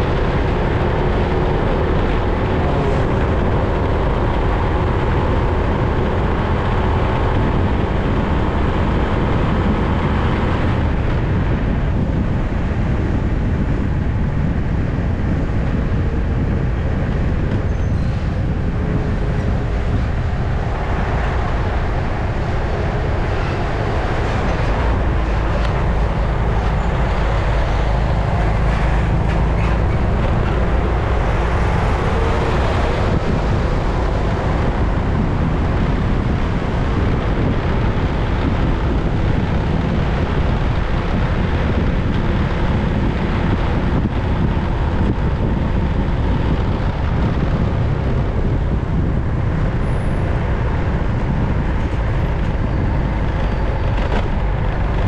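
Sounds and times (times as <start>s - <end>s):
motorbike road noise: 0.0s - 55.0s
wind rush: 0.0s - 55.0s.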